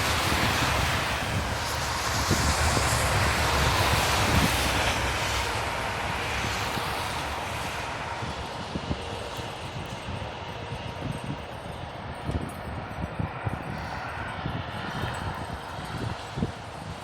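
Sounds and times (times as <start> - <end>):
storm wind blowing: 0.0 - 17.0
wind buffeting microphone: 0.0 - 17.0.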